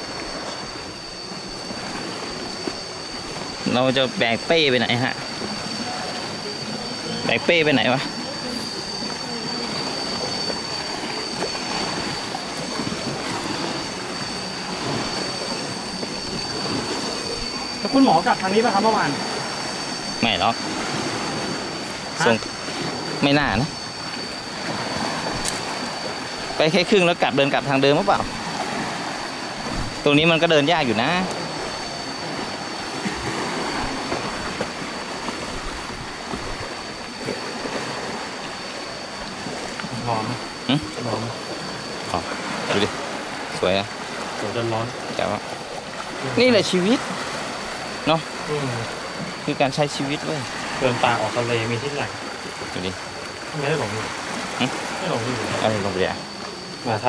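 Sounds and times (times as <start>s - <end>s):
cicadas droning: 0.0s - 57.0s
constant rushing noise: 0.0s - 57.0s.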